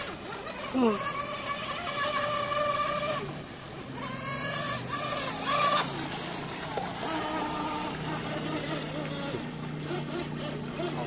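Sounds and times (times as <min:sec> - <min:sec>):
electric motor high whine: 0:00.0 - 0:11.0.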